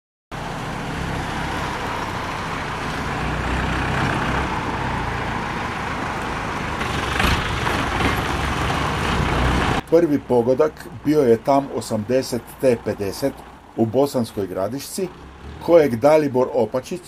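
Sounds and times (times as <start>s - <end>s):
truck engine running: 0.3s - 17.0s.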